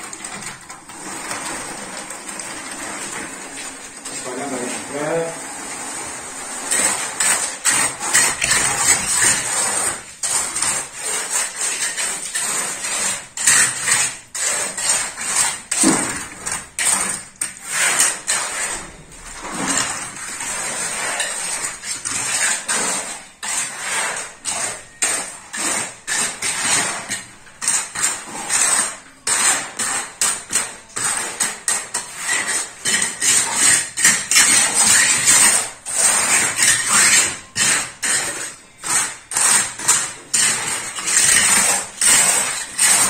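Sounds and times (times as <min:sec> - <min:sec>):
trowel scraping wet concrete: 0:00.0 - 0:43.0.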